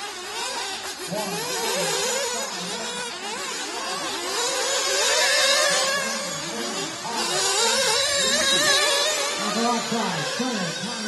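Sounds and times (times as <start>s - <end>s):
model car engines buzzing: 0.0s - 11.0s.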